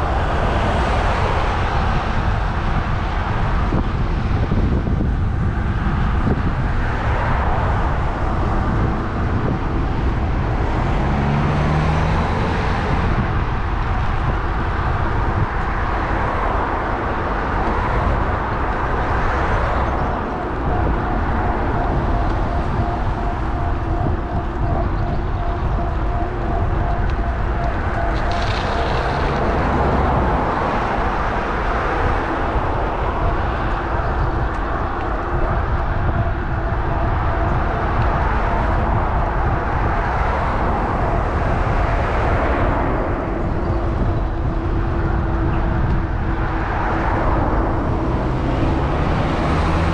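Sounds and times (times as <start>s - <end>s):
passing road traffic: 0.0s - 49.9s
wind noise: 0.0s - 49.9s.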